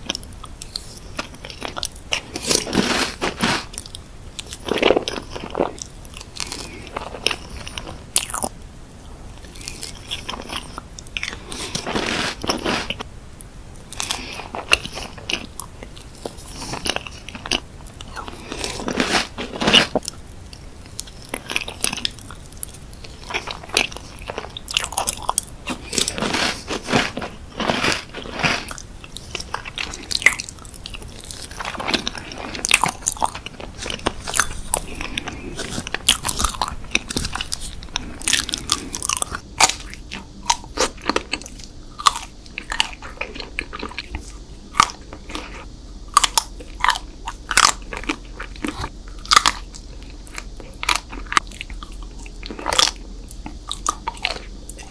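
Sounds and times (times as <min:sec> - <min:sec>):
crunchy chewing close up: 0:00.0 - 0:08.6, 0:09.3 - 0:54.9.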